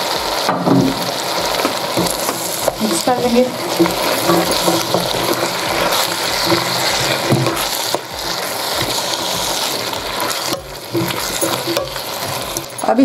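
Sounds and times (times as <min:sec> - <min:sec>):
vegetables sizzling in a pan: 0:00.0 - 0:13.0
wooden spoon knocking a pan: 0:00.2 - 0:13.0.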